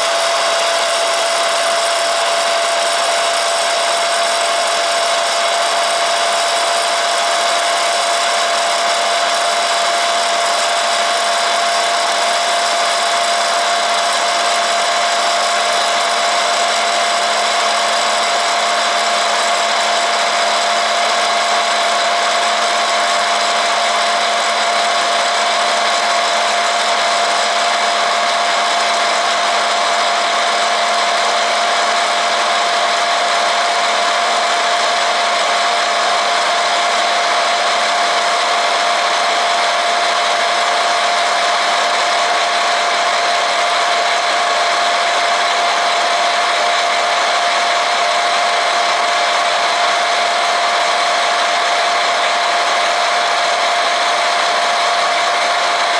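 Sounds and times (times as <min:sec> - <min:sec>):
popcorn machine fan whirring: 0:00.0 - 0:55.9.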